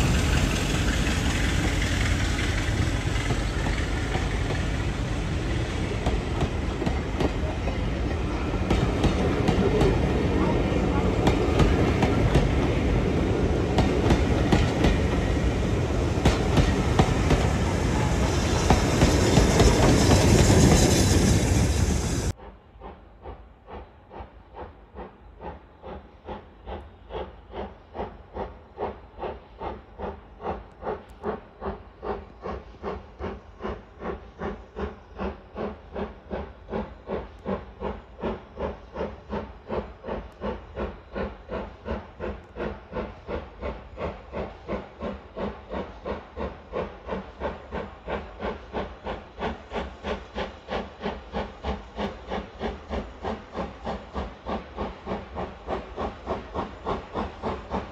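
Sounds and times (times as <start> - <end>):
steam locomotive exhaust beating: 0.0 - 57.9.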